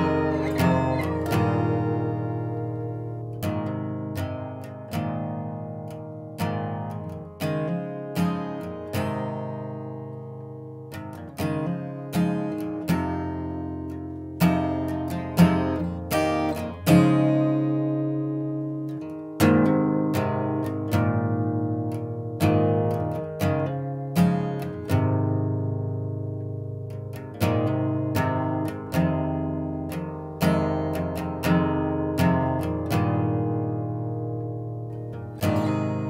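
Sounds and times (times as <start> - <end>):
acoustic guitar playing: 0.0 - 36.0.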